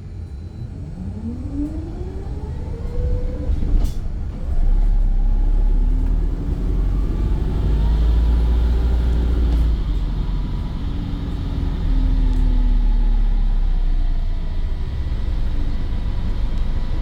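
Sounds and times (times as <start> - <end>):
bus engine whine rising: 0.0 - 17.0
low engine rumble: 0.0 - 17.0.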